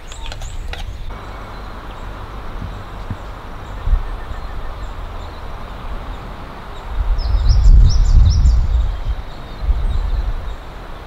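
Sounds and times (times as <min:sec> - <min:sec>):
bird chirping: 0:00.0 - 0:11.0
wind buffeting microphone: 0:00.0 - 0:11.0.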